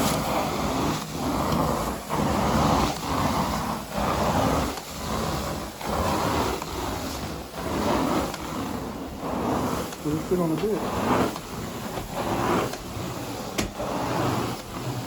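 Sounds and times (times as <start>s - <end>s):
carpet cleaner rushing: 0.0s - 15.0s.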